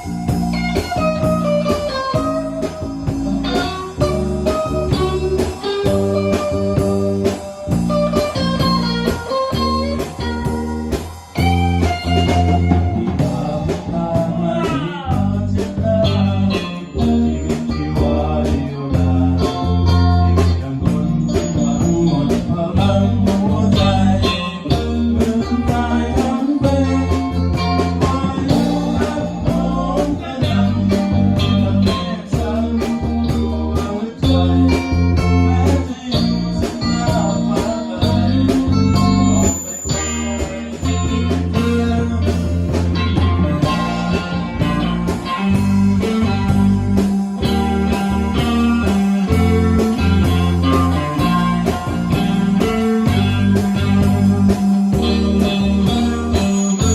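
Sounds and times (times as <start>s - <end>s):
electric guitar lines: 0.0s - 56.9s
rock band playing: 0.0s - 56.9s.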